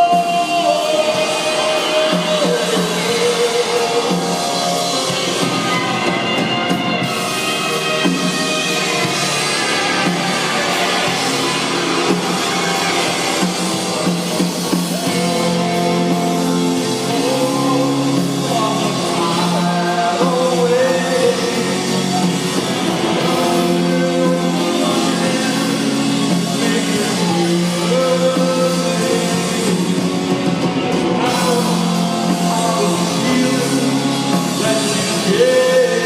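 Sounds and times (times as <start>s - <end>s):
live rock band: 0.0s - 36.0s
person singing: 0.0s - 36.0s.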